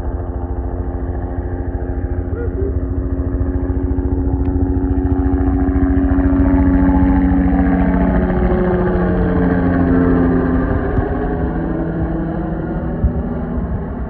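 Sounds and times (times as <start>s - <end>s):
engine running with low pulsing: 0.0s - 14.0s.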